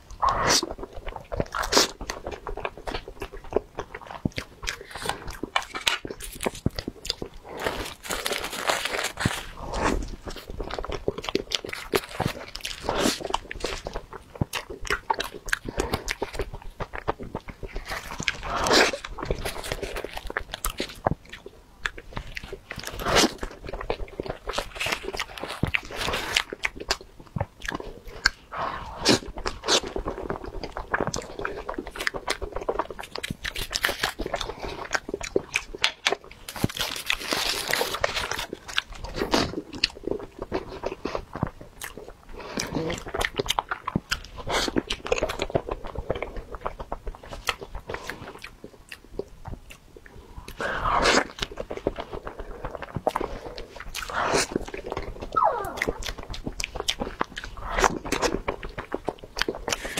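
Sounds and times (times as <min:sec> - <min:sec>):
chewing rice cakes: 0:00.0 - 0:59.9
mouth clicks and smacks: 0:09.8 - 0:59.9.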